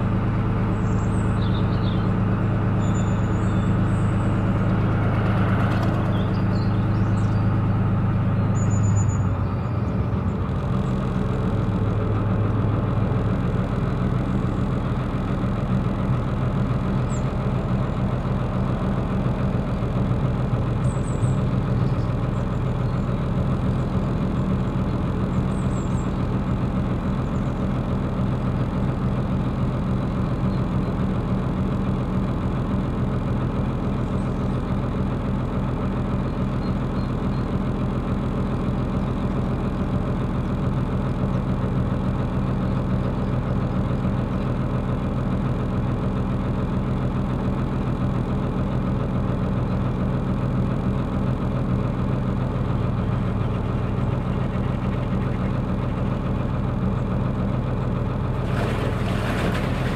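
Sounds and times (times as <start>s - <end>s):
boat engine running: 0.0s - 50.7s, 51.6s - 59.9s.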